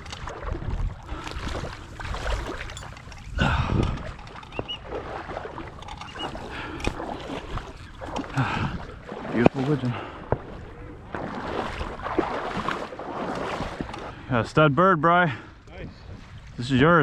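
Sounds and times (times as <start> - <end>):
wading through shallow water: 0.0 - 17.0.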